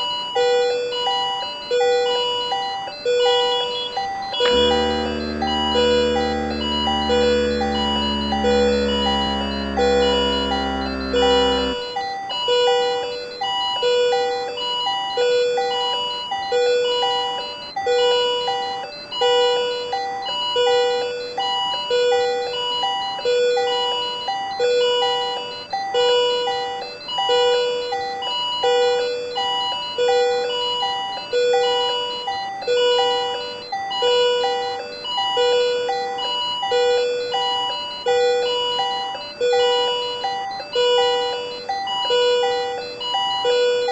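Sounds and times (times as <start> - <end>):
patient monitor alarm tones: 0.0 - 43.9.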